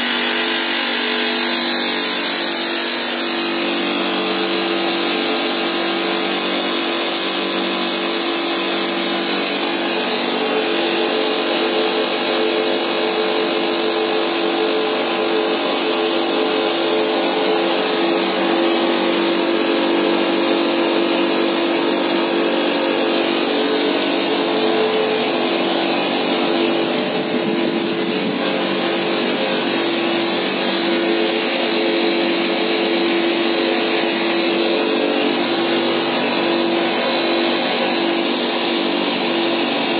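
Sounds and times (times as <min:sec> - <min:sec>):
tube mill mechanical hum: 0:00.0 - 0:39.9.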